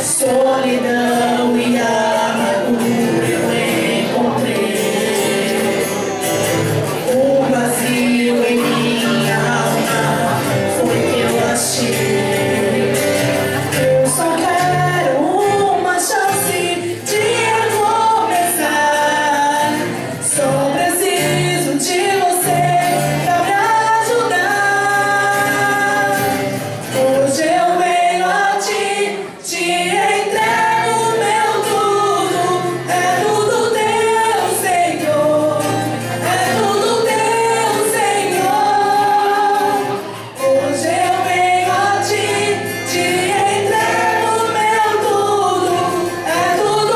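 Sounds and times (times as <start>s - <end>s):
people singing: 0.0s - 46.9s.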